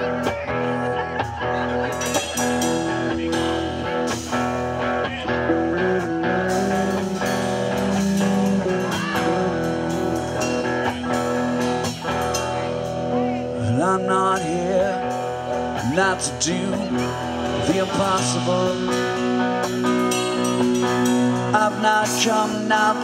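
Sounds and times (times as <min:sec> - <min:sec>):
bass guitar: 0:00.0 - 0:23.0
drums: 0:00.0 - 0:23.0
electric guitars: 0:00.0 - 0:23.0.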